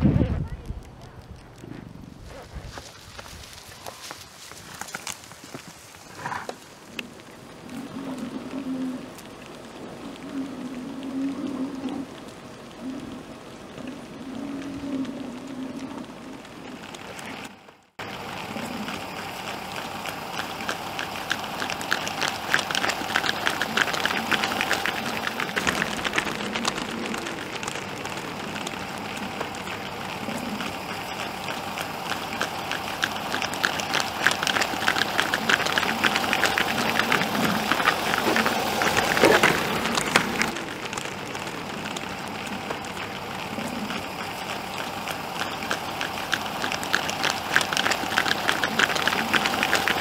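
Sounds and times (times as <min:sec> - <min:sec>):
hooves clattering on asphalt: 0:00.1 - 0:10.0, 0:16.8 - 0:50.0.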